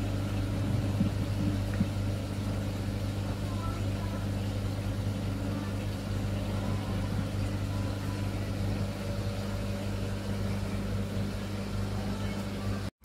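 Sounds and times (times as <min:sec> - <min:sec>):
low pump hum: 0:00.0 - 0:13.0.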